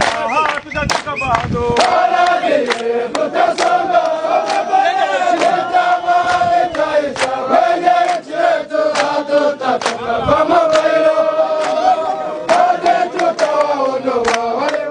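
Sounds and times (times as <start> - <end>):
hands clapping in time: 0.0 - 14.9
soldiers singing a chant: 1.5 - 14.9.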